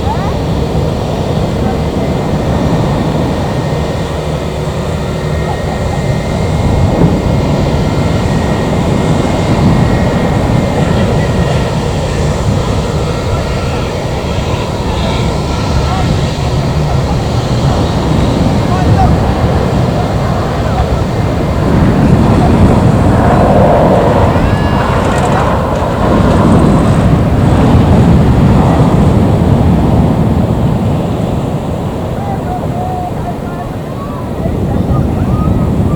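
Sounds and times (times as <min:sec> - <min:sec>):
jet engines rumbling: 0:00.0 - 0:35.9
wind buffeting microphone: 0:00.0 - 0:35.9.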